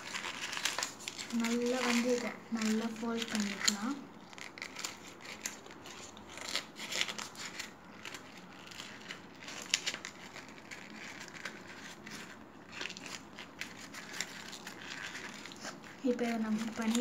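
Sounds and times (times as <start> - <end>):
paper crinkling by hand: 0.0 - 17.0.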